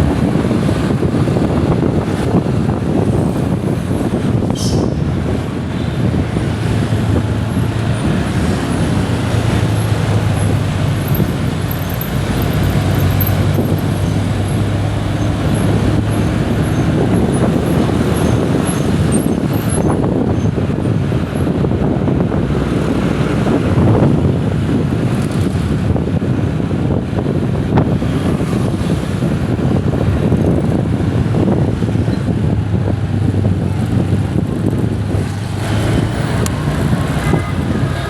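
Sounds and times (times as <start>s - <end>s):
low engine hum: 0.0s - 38.0s
road traffic noise: 0.0s - 38.0s
wind rumbling on microphone: 0.0s - 38.0s.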